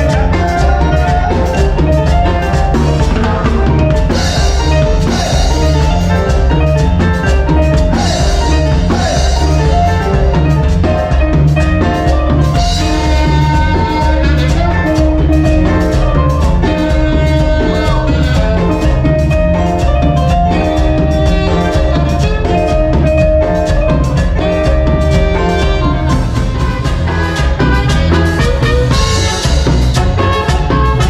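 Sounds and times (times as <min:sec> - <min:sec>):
live band playing: 0:00.0 - 0:31.0.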